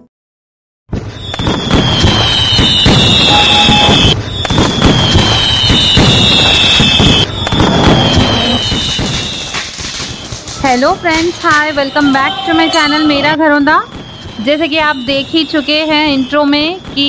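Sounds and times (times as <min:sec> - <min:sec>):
faint high whistle: 0:01.2 - 0:17.0
firework hissing and crackling: 0:01.4 - 0:13.2, 0:14.1 - 0:16.5.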